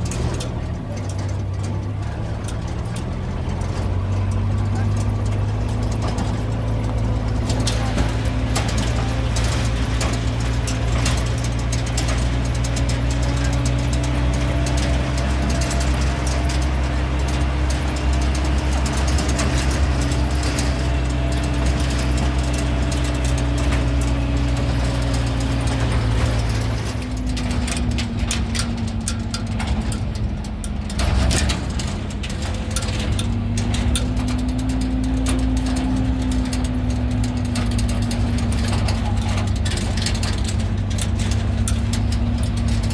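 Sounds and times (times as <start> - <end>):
light rattling clicks: 0.0 - 42.9
vehicle engine running: 0.0 - 42.9.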